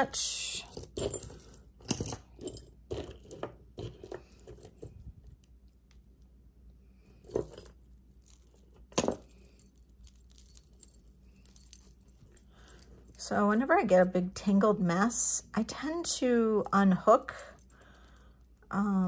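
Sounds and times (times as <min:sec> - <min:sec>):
metal jewelry clinking: 0:00.0 - 0:05.5, 0:06.9 - 0:14.3, 0:16.4 - 0:19.0.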